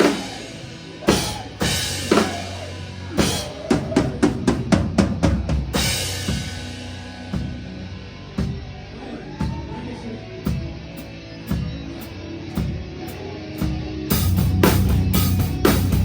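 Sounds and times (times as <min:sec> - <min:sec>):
loud metal band playing: 0:00.0 - 0:16.0.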